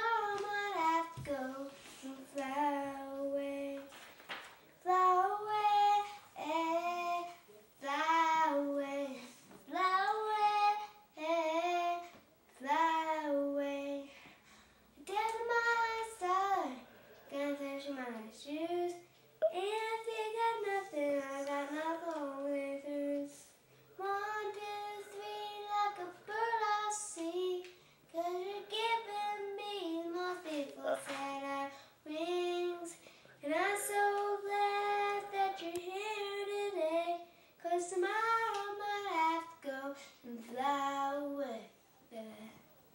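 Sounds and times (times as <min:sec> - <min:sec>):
girl singing alone: 0:00.0 - 0:04.0, 0:04.8 - 0:14.4, 0:15.0 - 0:42.7.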